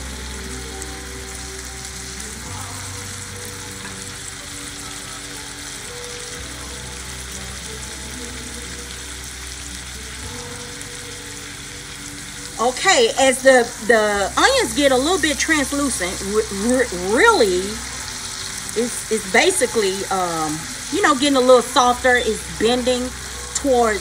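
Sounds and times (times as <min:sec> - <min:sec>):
onions sizzling in butter: 0:00.0 - 0:24.0.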